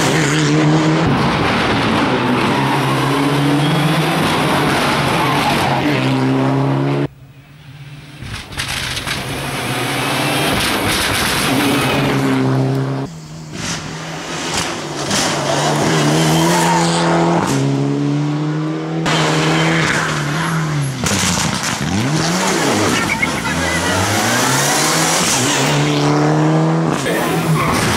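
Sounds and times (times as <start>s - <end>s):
rally car engine revving: 0.0s - 7.1s, 8.1s - 27.9s.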